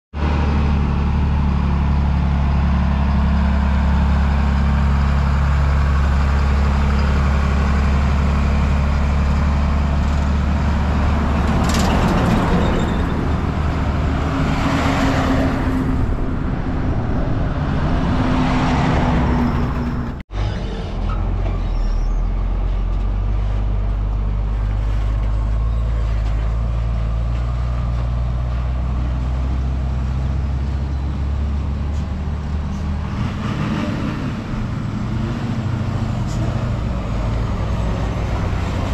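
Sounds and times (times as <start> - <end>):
diesel truck engine drone: 0.1 - 38.9
tyre and road noise: 0.1 - 38.9.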